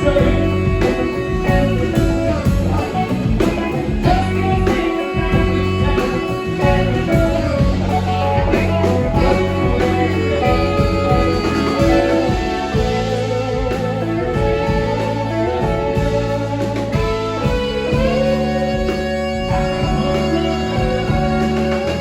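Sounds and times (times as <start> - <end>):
guitar: 0.0 - 22.0
live band music: 0.0 - 22.0.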